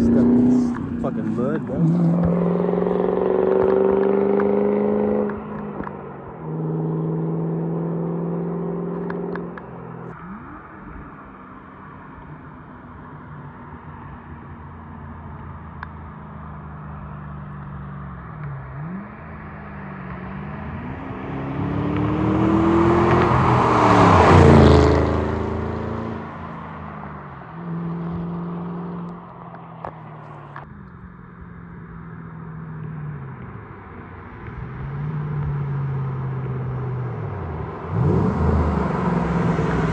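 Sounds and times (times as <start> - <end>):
car engine through exhaust: 0.0 - 11.3, 12.0 - 39.9.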